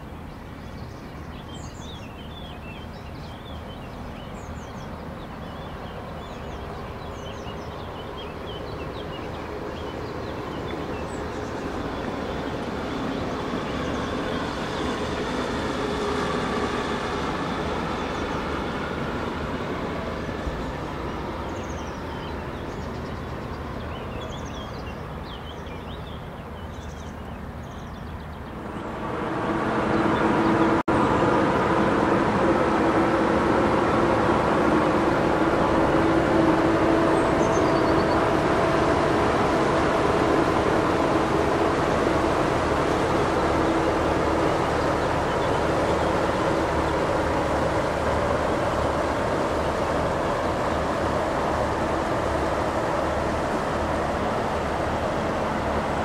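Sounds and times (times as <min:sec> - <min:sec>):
electric train rolling past: 0:00.0 - 0:56.0.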